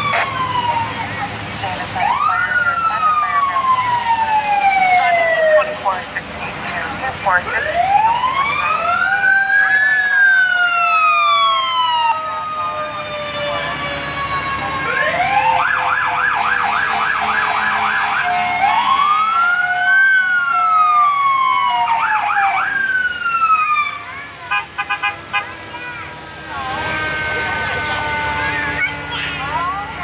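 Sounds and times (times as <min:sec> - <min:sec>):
emergency vehicle siren wail and yelp: 0:00.0 - 0:30.0
faint second siren wailing: 0:00.0 - 0:30.0.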